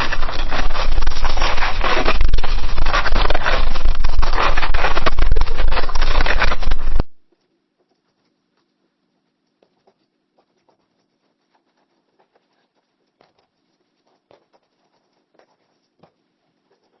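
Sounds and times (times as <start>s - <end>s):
pencil scratching on paper: 0.0s - 7.1s, 9.7s - 17.0s.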